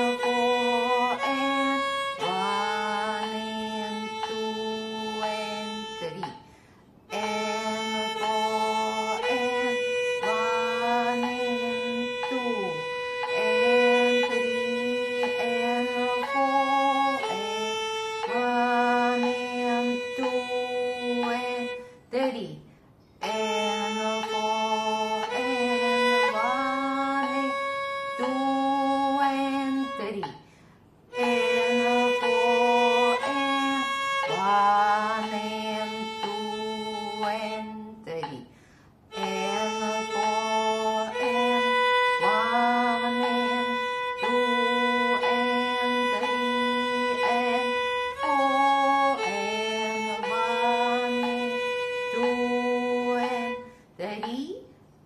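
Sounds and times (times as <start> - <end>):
bowed viola notes: 0.0 - 54.9.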